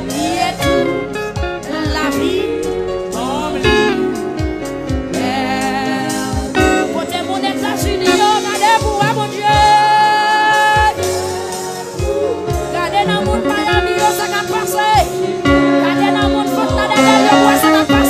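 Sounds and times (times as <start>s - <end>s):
woman singing a hymn: 0.0s - 4.3s, 5.1s - 18.0s
instrumental accompaniment with beat: 0.0s - 18.0s.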